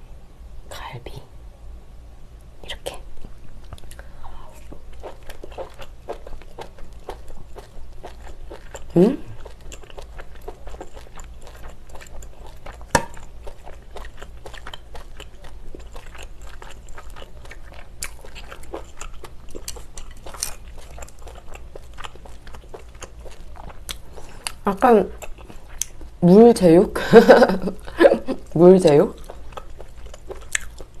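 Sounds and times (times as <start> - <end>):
close wet chewing: 3.4 - 26.2, 27.2 - 31.0.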